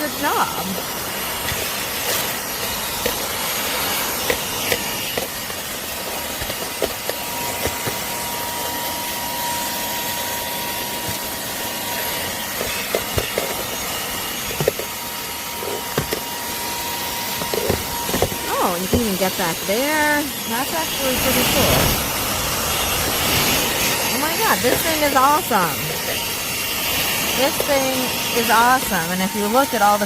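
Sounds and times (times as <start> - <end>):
handheld vacuum running: 0.0 - 30.0.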